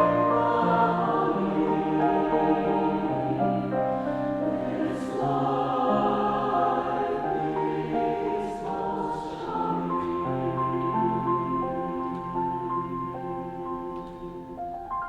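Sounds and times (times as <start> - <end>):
mixed choir singing: 0.0 - 15.0.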